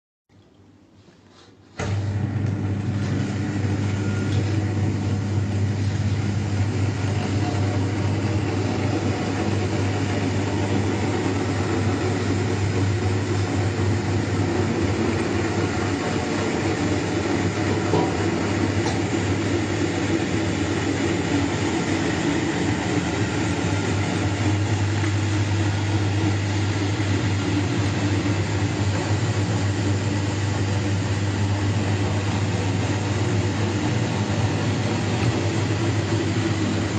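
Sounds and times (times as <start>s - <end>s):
washing machine mechanical rush: 0.8s - 36.9s
motor hum: 1.8s - 36.9s.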